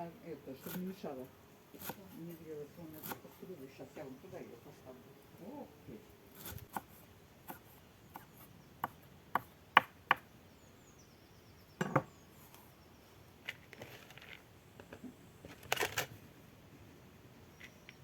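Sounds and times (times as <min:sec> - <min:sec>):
rustle: 0:00.0 - 0:18.0.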